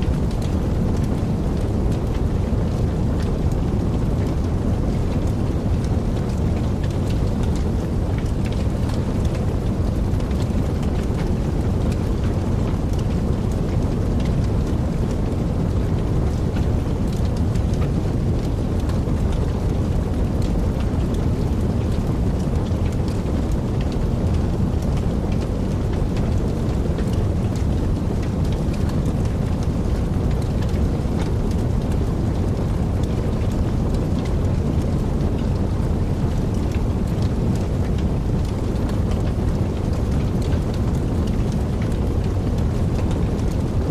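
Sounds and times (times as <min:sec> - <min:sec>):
fire crackles and pops: 0:00.0 - 0:43.9
low rumble of flame: 0:00.0 - 0:43.9.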